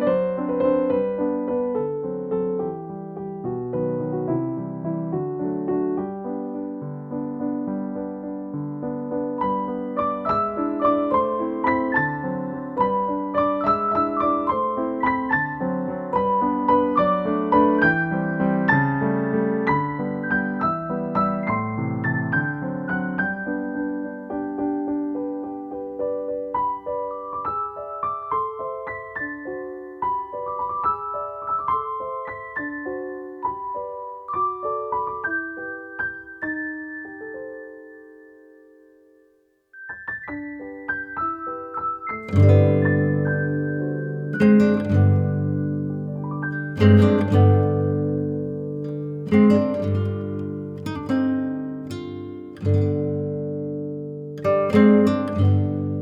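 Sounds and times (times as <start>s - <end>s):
held low piano chords: 0.0s - 38.5s, 39.9s - 56.0s
gentle piano melody: 0.0s - 56.0s.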